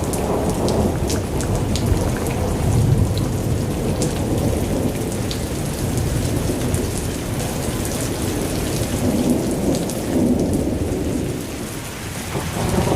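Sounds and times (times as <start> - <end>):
low rumble of thunder: 0.0 - 12.9
steady rain: 0.0 - 12.9.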